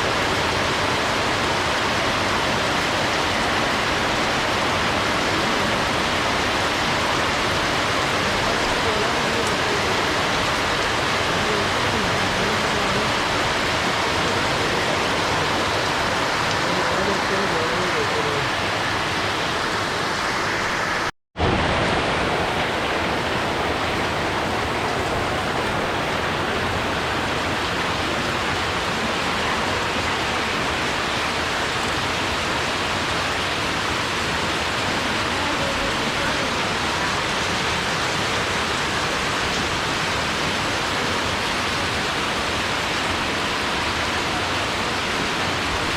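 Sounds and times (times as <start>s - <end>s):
steady rainfall: 0.0s - 45.9s.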